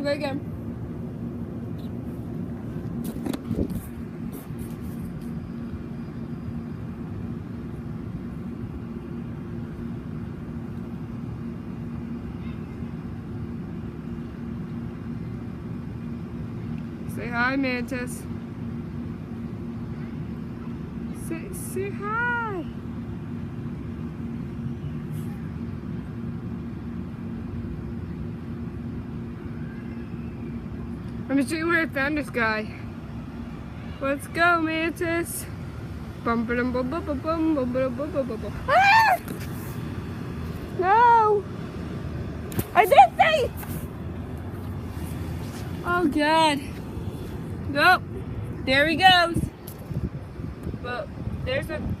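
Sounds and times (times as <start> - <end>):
low mechanical hum: 0.0 - 52.0.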